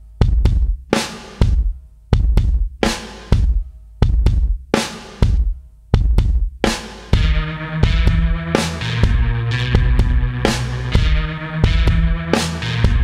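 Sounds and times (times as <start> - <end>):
bass drum and snare beat: 0.0 - 13.0.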